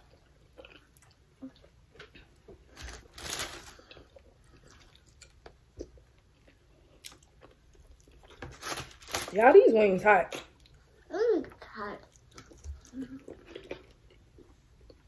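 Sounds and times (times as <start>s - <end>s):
people chewing crunchy food: 0.0s - 9.2s, 10.5s - 15.0s.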